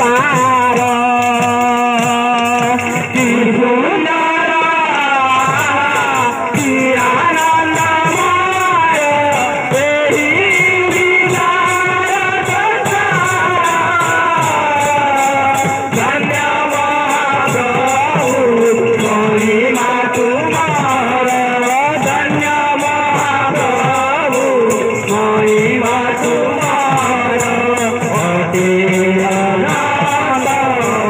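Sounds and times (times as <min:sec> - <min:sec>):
hand-played barrel drums: 0:00.0 - 0:31.0
jingling metal percussion: 0:00.0 - 0:31.0.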